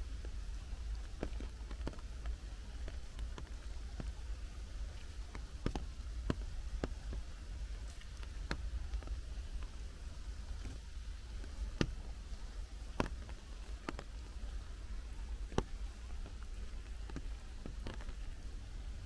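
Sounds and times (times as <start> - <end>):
rain hissing in forest: 0.0 - 19.0
sharp raindrops landing: 0.0 - 19.0.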